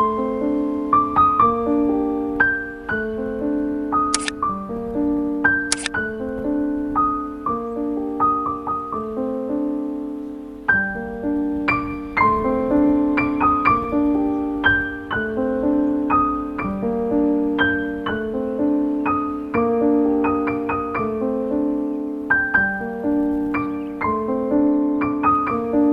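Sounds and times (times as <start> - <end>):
gentle piano melody: 0.0 - 25.9.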